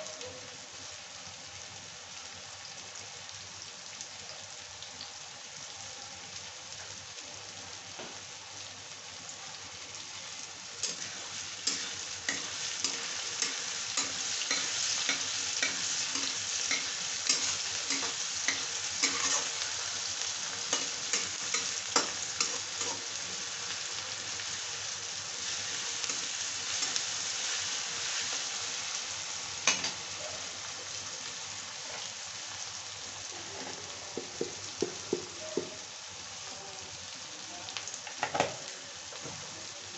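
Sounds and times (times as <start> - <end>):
vegetables sizzling in hot oil: 0.0 - 39.9.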